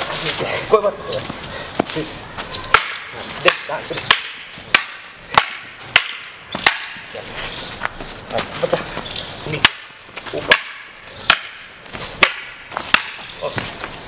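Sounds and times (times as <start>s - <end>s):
bamboo sticks clacking: 1.2s - 14.0s.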